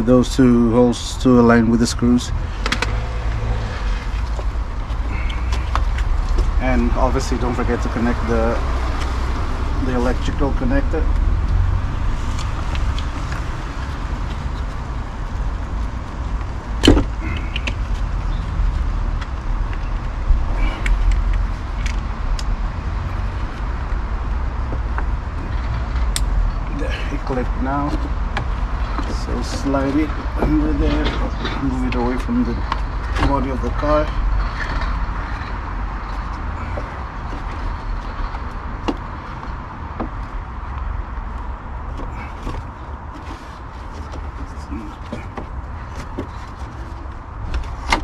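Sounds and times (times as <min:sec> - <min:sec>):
low outdoor rumble: 0:00.0 - 0:48.0.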